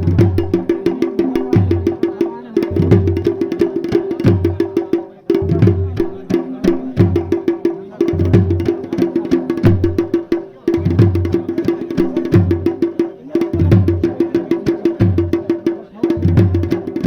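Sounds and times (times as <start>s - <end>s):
deep drum beats: 0.0s - 17.0s.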